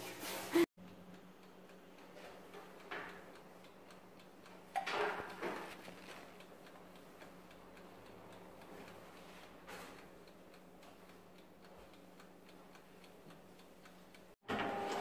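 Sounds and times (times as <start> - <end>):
oven timer ticking: 0.8 - 15.0.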